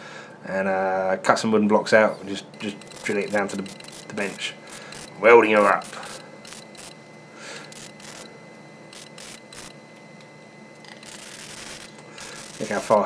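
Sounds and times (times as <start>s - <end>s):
welder arc crackling: 1.9s - 13.0s.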